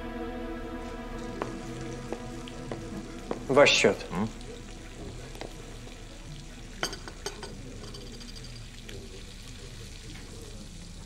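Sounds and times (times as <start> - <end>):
restaurant room hiss: 0.0 - 11.0.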